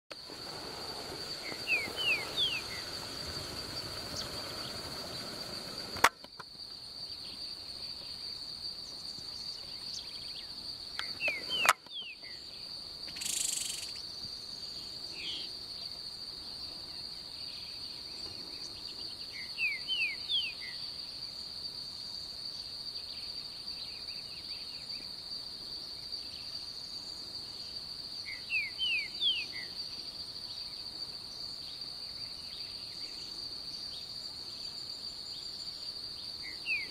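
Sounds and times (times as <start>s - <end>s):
insects trilling: 0.1s - 36.9s.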